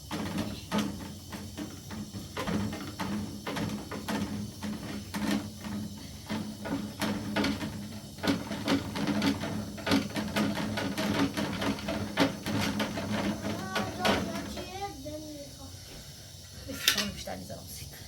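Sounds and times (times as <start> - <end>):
quick irregular taps and clicks: 0.0 - 14.8.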